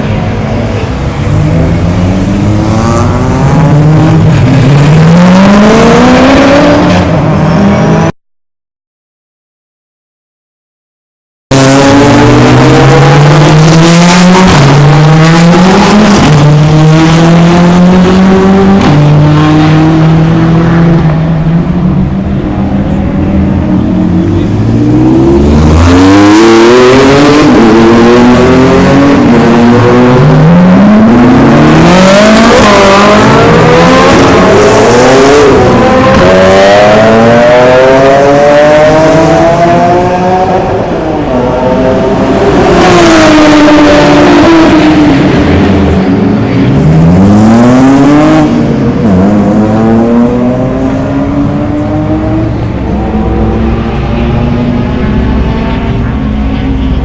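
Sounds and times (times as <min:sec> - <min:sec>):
race car engines revving: 0:00.0 - 0:08.1, 0:11.5 - 0:57.0.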